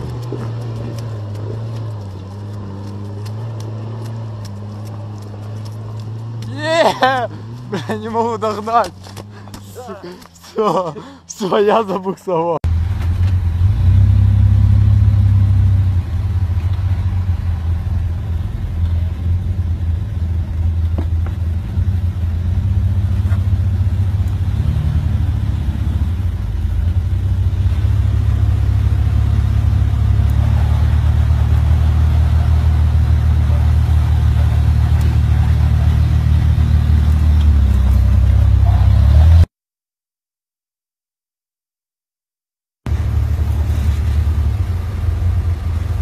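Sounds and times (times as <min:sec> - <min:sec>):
engine rumbling under load: 0:00.0 - 0:39.5, 0:42.9 - 0:46.0.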